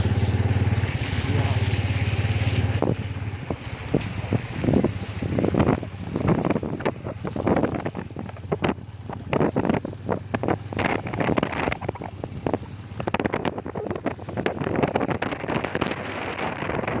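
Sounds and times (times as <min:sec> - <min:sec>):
low engine hum: 0:00.0 - 0:17.0
wind buffeting microphone: 0:02.2 - 0:17.0.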